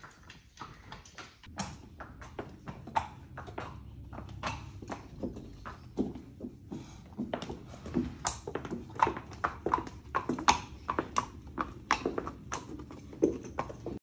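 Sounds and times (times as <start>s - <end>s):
hooves on concrete: 0.0s - 14.0s.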